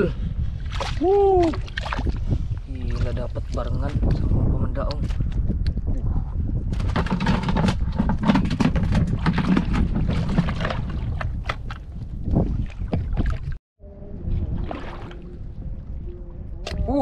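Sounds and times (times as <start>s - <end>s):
water splashing and sloshing: 0.2s - 5.5s, 6.6s - 17.0s.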